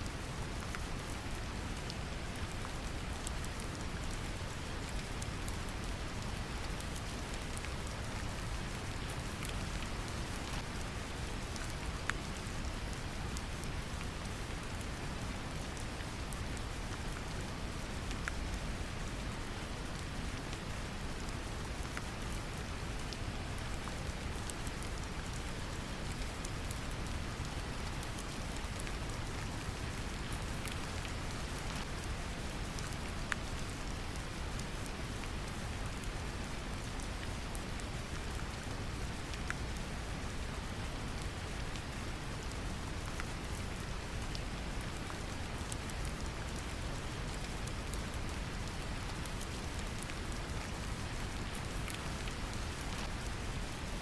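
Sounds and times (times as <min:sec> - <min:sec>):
gentle rain pattering: 0:00.0 - 0:54.0.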